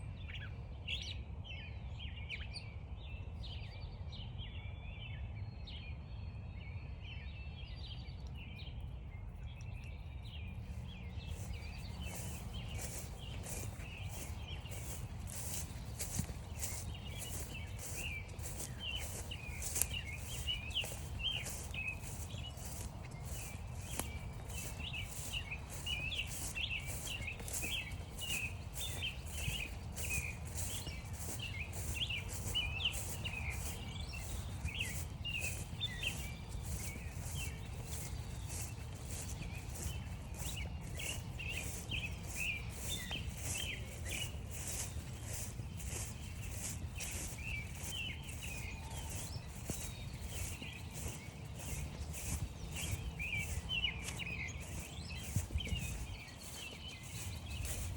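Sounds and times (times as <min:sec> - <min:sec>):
small birds chirping: 0:07.8 - 0:57.9
footsteps crunching through frosty grass: 0:09.4 - 0:57.9.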